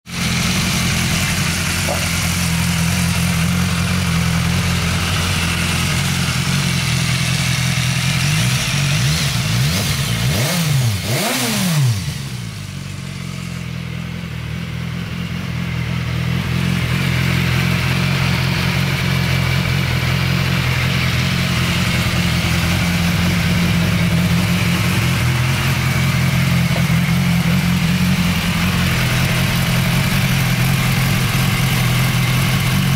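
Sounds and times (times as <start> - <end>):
motorcycle engine idling: 0.1 - 32.9.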